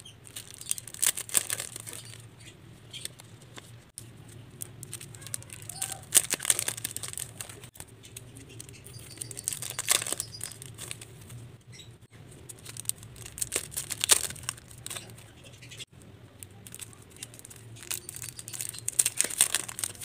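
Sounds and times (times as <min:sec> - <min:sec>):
cellophane crinkling and tearing: 0:00.0 - 0:02.3, 0:02.9 - 0:07.9, 0:08.5 - 0:11.4, 0:12.4 - 0:15.4, 0:16.3 - 0:20.0.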